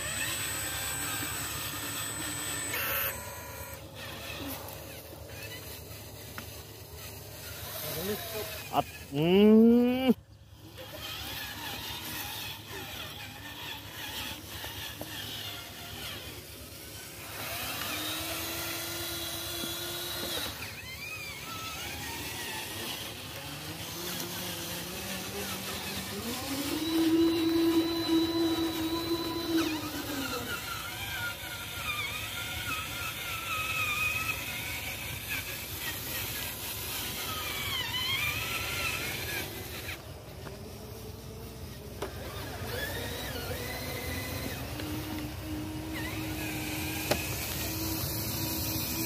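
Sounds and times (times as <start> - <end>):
small electric motors whining: 0.0 - 49.0.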